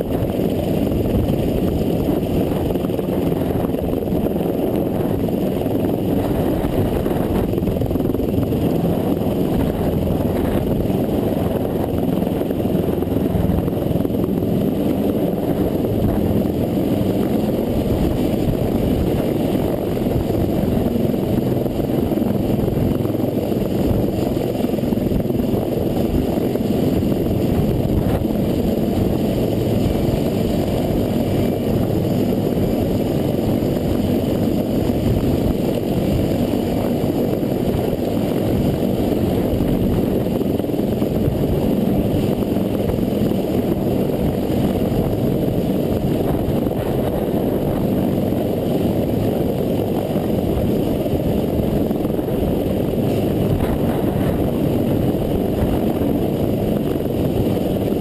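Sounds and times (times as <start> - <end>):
helicopter rotor and engine noise: 0.0 - 58.0.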